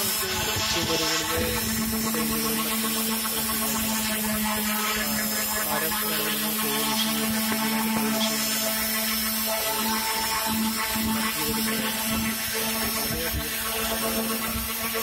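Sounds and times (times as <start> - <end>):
orbital sander motor hum: 0.0 - 15.0
rough sanding hiss: 0.0 - 15.0.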